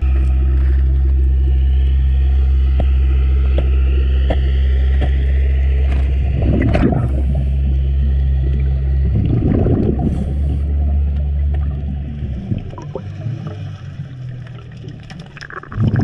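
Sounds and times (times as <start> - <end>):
crackling and gurgling: 0.0 - 16.0
underwater motor drone: 0.0 - 16.0.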